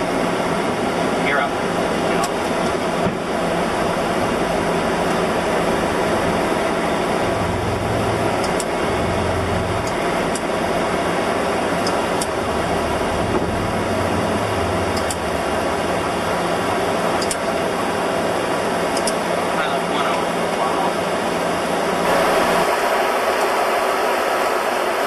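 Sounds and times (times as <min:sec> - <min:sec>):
low aircraft engine hum: 0:00.0 - 0:25.0
rushing airflow and air conditioning: 0:00.0 - 0:25.0.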